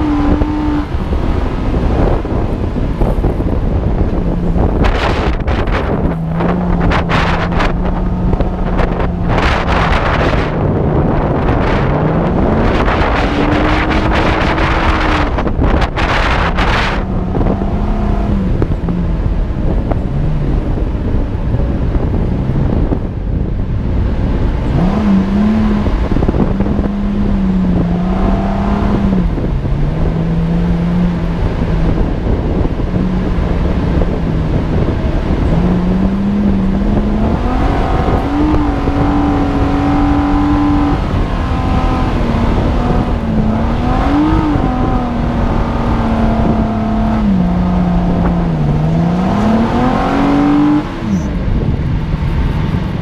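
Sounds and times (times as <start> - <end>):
engine revving in sand: 0.0 - 23.1, 24.0 - 53.0
wind noise on microphone: 0.0 - 53.0.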